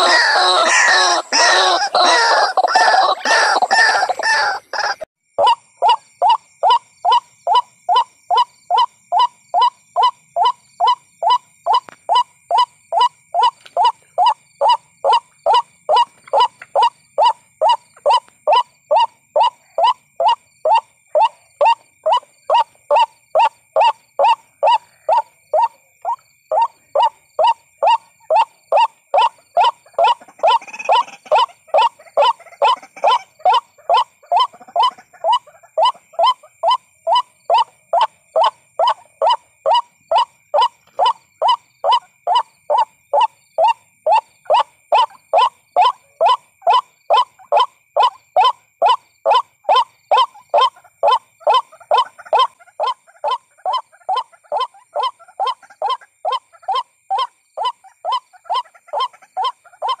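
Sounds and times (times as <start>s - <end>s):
waterhen croaking call: 0.0s - 60.0s.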